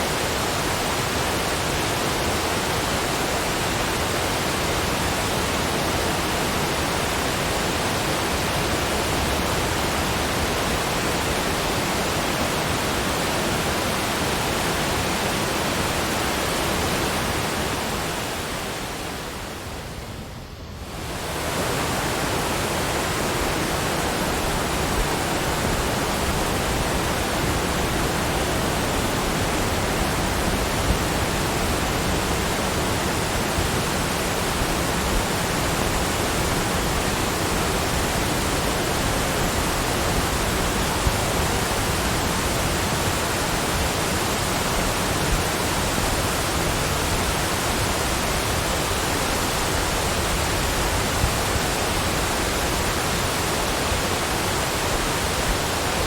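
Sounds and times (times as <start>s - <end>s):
steady rushing noise: 0.0s - 56.0s.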